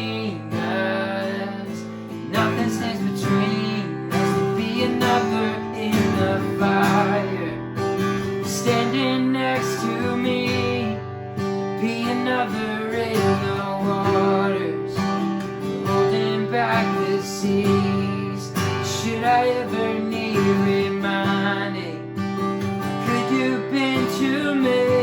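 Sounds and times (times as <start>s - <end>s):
person singing: 0.0s - 25.0s
strummed acoustic guitar: 0.0s - 25.0s.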